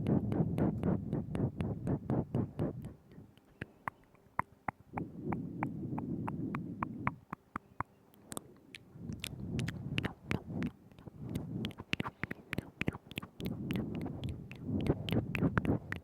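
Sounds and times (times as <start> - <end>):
wet tongue and lip clicks: 0.0 - 16.0
soft breathing: 0.3 - 16.0.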